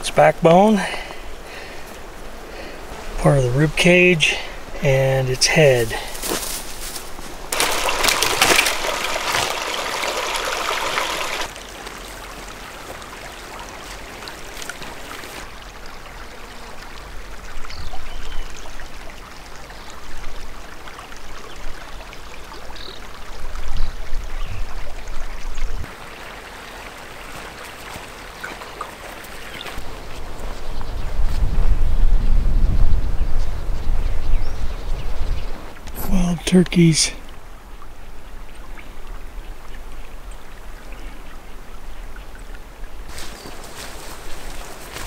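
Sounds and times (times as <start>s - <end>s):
creek trickling over rocks: 0.0s - 30.8s, 35.7s - 45.0s.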